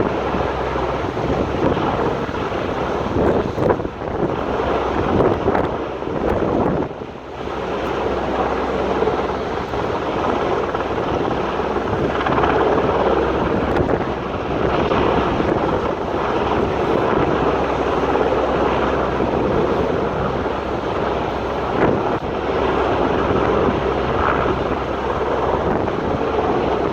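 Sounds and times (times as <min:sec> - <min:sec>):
helicopter overhead: 0:00.0 - 0:26.9
wind buffeting microphone: 0:00.0 - 0:26.9.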